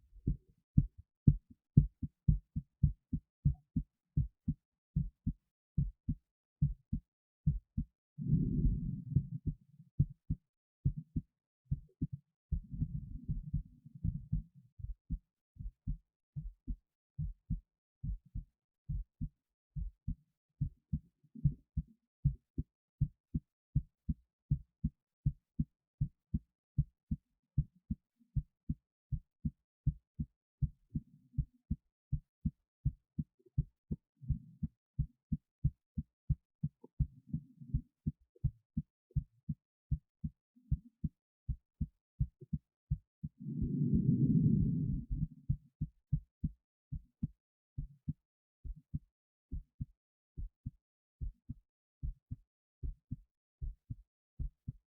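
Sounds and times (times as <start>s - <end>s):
heartbeat thuds: 0.0s - 54.8s.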